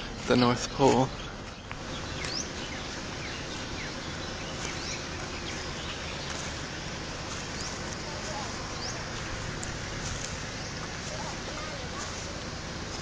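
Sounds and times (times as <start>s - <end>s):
bird chirps: 0.0s - 12.6s
steady background hiss: 0.0s - 13.0s.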